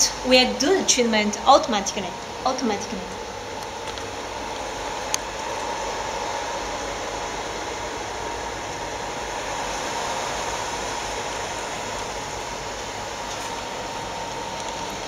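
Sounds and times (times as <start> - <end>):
cooling fans hissing: 0.0 - 15.0
faint steady whine: 0.0 - 15.0.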